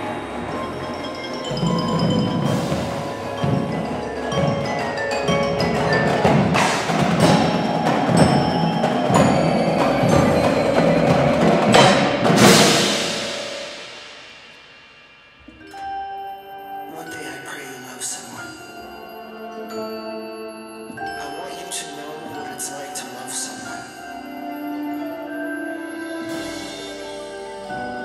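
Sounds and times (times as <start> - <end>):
full ensemble hits: 0.0 - 20.2, 23.6 - 28.0
marimbas ringing: 0.0 - 28.0.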